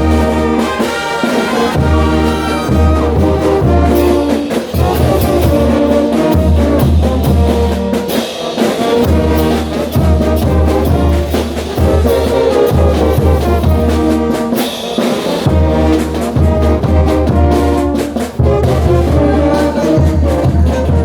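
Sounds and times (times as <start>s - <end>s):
brass band playing: 0.0s - 21.0s
percussion strikes: 0.0s - 21.0s.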